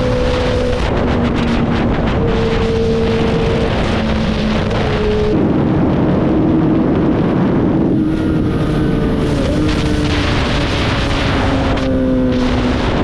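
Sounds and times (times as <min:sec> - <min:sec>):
motorcycle engines running: 0:00.0 - 0:13.0
wind rush on microphone: 0:00.0 - 0:13.0.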